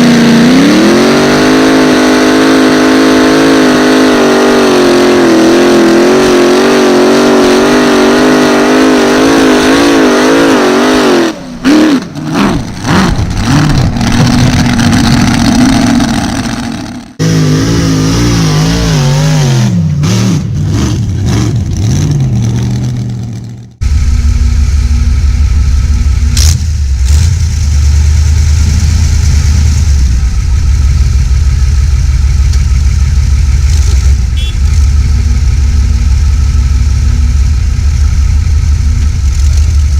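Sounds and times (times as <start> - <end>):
tractor engines running hard: 0.0 - 39.9.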